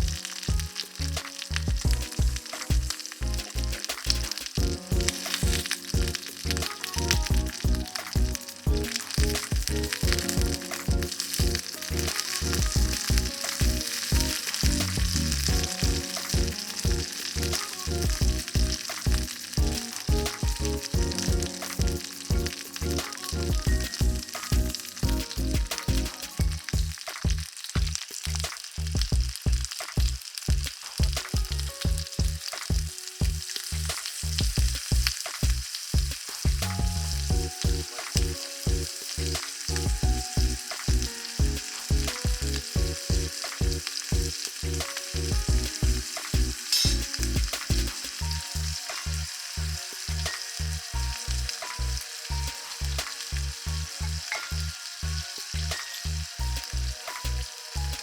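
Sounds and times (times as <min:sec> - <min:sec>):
background music with beat: 0:00.0 - 0:58.0
shrimp sizzling in hot oil: 0:00.0 - 0:58.0.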